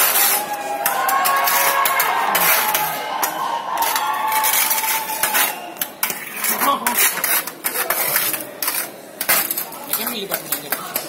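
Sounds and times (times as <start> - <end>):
trowels scraping a metal tray: 0.0 - 3.0, 3.8 - 11.0.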